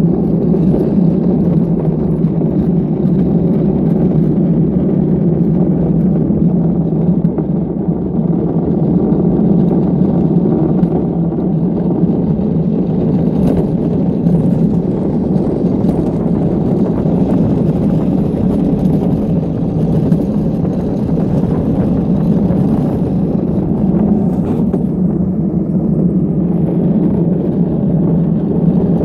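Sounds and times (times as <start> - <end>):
wheels rumbling on asphalt: 0.0 - 29.0.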